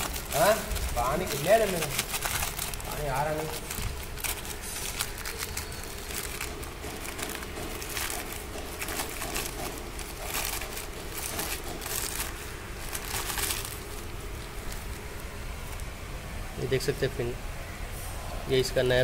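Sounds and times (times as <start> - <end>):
plastic bag crinkling: 0.0 - 16.4
bubble wrap crinkling: 0.0 - 16.9.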